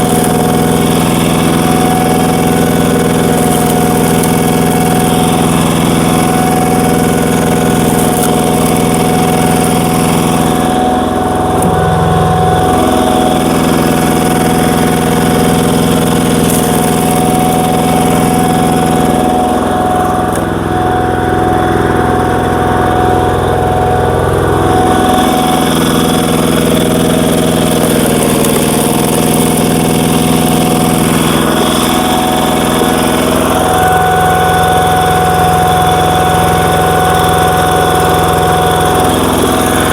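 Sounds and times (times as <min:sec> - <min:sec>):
diesel engine labouring: 0:00.0 - 0:39.9.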